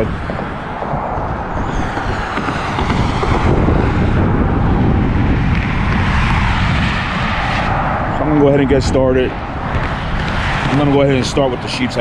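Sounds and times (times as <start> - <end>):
cars passing on a road: 0.0 - 12.0
wind buffeting microphone: 0.0 - 12.0.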